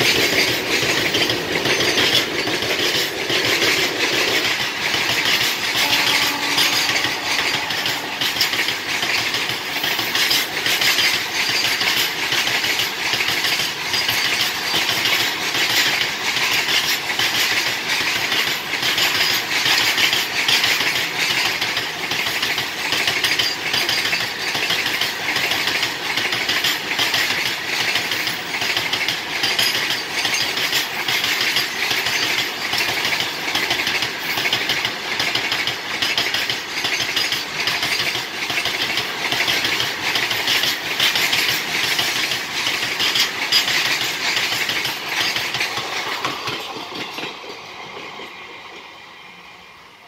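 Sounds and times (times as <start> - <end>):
freight train wheels clattering: 0.0 - 49.0
wheels clicking over rail joints: 0.0 - 49.0.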